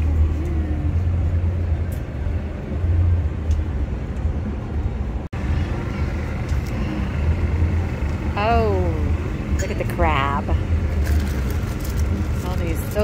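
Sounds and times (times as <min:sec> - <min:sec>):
low outdoor background rumble: 0:00.0 - 0:13.0.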